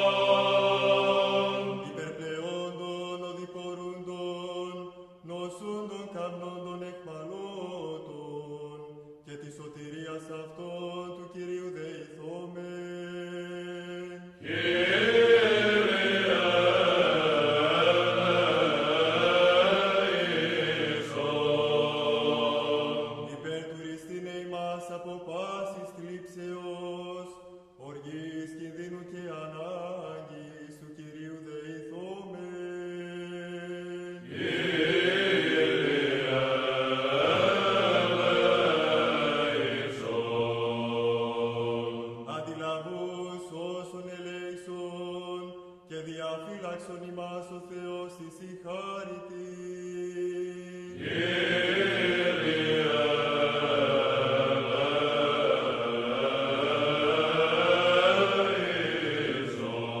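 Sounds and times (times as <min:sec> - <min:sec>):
person chanting: 0:00.0 - 1:00.0.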